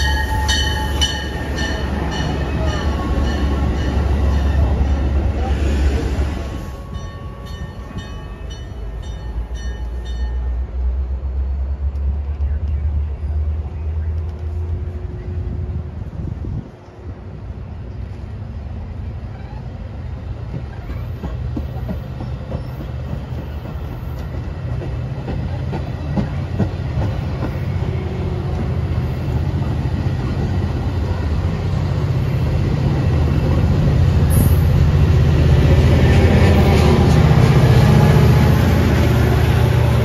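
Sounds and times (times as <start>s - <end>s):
diesel train engine drone: 0.0s - 40.0s.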